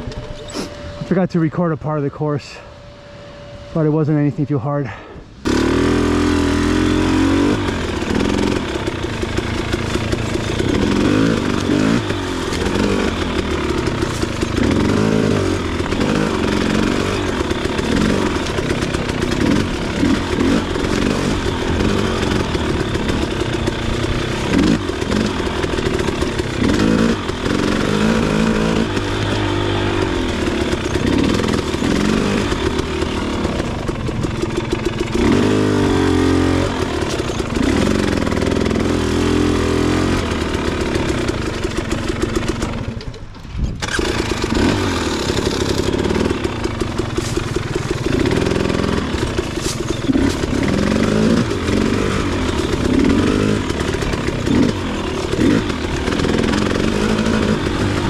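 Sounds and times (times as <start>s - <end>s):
dirt bike engine revving: 0.0s - 43.1s, 43.7s - 58.0s.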